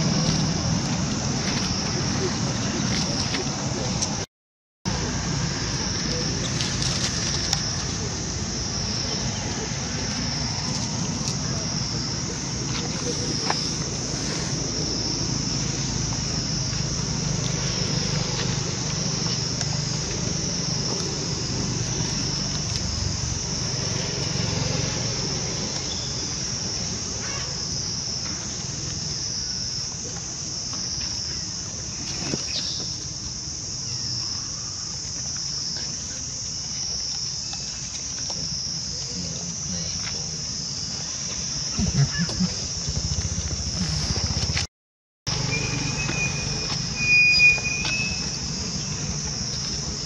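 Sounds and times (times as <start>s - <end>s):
high-pitched insect chorus: 0.0s - 4.2s, 4.9s - 44.7s, 45.3s - 50.0s.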